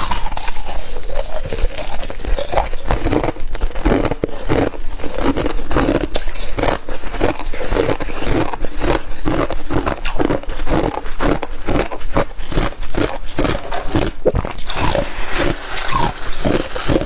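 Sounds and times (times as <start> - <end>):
frost being chewed: 0.0 - 17.0.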